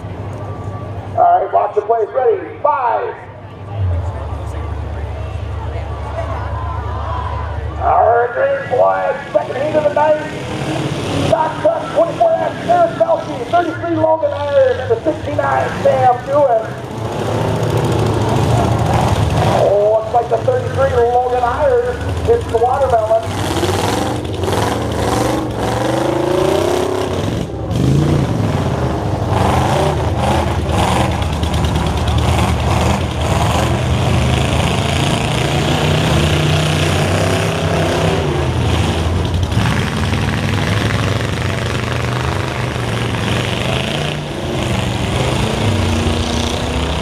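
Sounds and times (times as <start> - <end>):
truck engines revving: 0.0 - 47.0.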